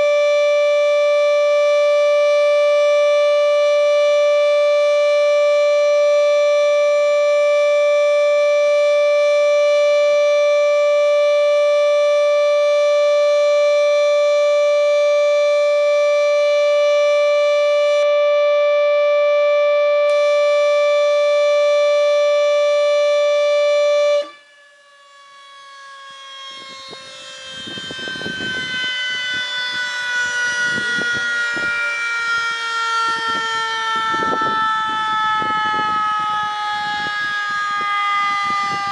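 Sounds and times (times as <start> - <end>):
civil defense siren: 0.0 - 38.9.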